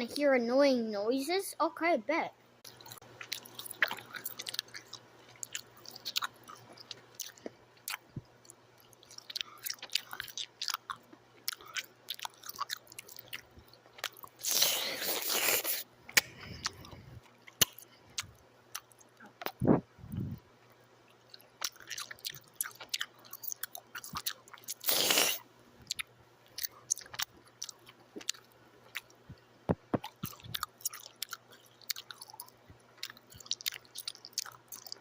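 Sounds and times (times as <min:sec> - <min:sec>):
chewing and mouth noises: 0:02.6 - 0:20.4, 0:21.1 - 0:35.0.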